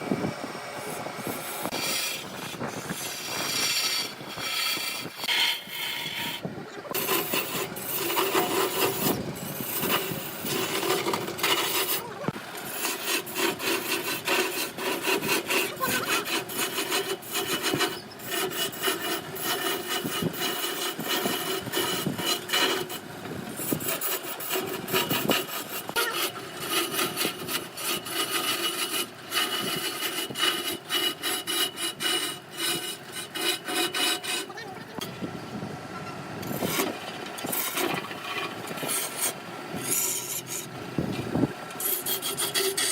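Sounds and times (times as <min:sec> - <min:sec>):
lathe hum: 0:00.0 - 0:35.6, 0:36.4 - 0:42.9
turning tool scraping wood: 0:00.8 - 0:35.2, 0:36.4 - 0:42.9.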